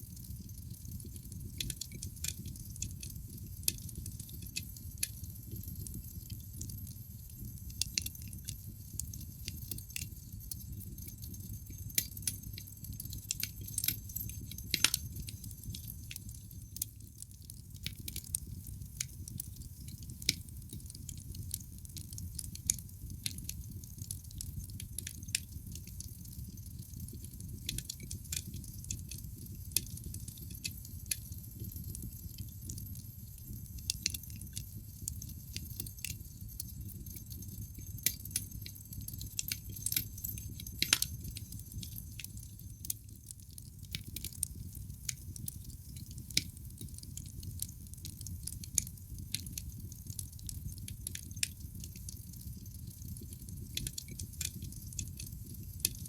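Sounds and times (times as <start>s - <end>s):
wood fire crackling: 0.0s - 56.0s
burning logs popping: 0.3s - 56.0s.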